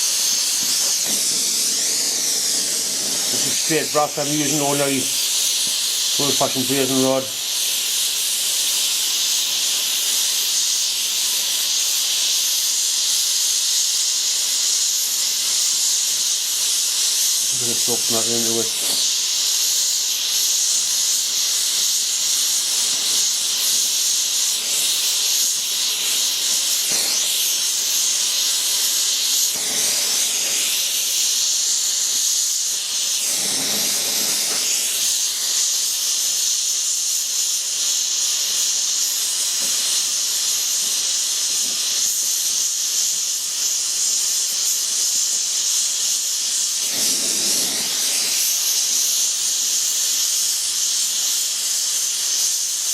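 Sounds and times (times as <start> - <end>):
torch flame hissing: 0.0 - 52.9.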